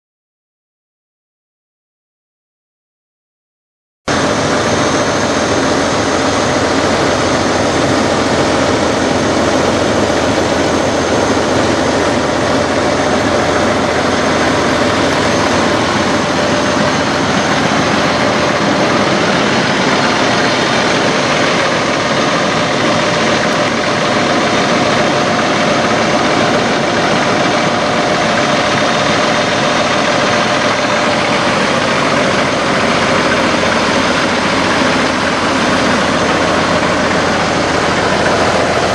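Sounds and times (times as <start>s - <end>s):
thin steady whine: 4.1s - 38.9s
truck diesel engine idling: 4.1s - 38.9s.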